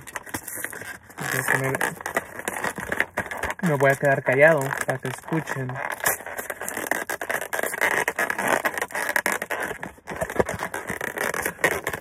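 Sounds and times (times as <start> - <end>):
cardboard box being torn open: 0.0 - 12.0.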